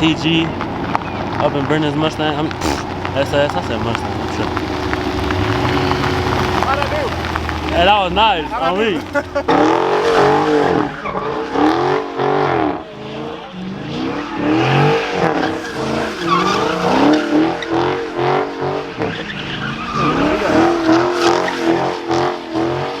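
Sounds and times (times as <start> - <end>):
car engine revving: 0.0 - 23.0
tires skidding and squealing: 0.0 - 23.0.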